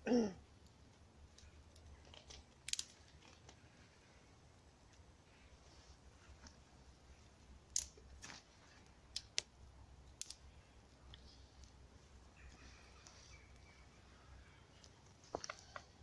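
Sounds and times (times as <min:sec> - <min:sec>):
campfire crackling: 0:00.4 - 0:16.0.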